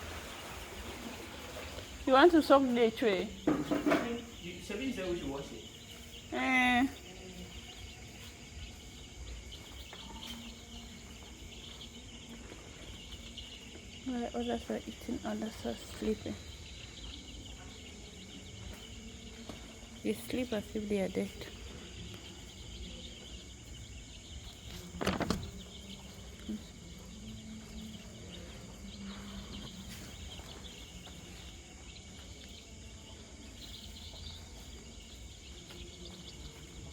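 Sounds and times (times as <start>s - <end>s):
background hiss: 0.0s - 36.6s
chicks peeping: 0.0s - 36.9s
insects chirring: 0.0s - 36.9s.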